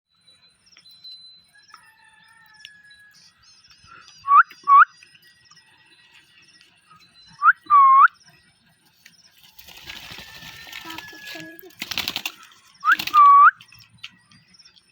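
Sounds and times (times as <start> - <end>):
faint high chirping and whistles: 0.1 - 11.6, 12.6 - 14.9.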